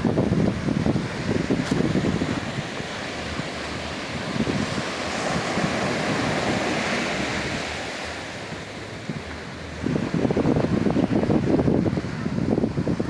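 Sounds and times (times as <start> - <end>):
sea waves on a sandy beach: 0.0 - 13.0
wind rumbling on microphone: 0.0 - 13.0.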